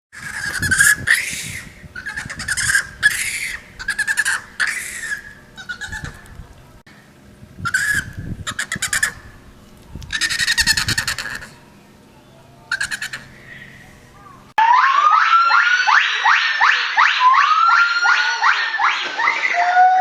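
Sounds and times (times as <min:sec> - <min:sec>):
monkey calling: 0:00.1 - 0:06.3, 0:07.6 - 0:09.4, 0:10.1 - 0:11.6, 0:12.7 - 0:20.0.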